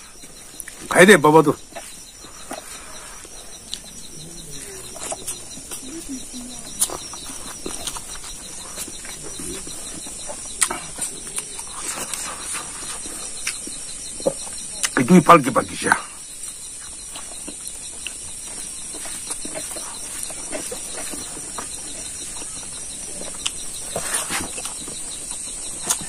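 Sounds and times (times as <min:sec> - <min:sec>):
man chewing and smacking lips: 0:00.0 - 0:26.0.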